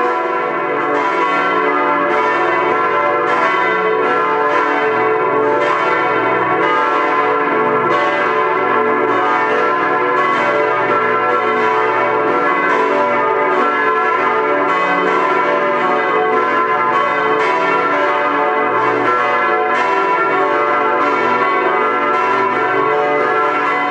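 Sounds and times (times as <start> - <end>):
church bells pealing: 0.0 - 23.9.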